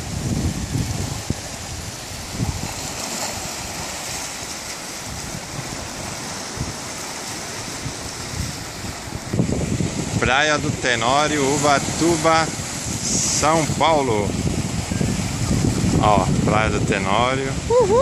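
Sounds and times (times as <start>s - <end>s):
surf breaking against rocks: 0.0s - 18.0s
wind buffeting microphone: 0.0s - 18.0s.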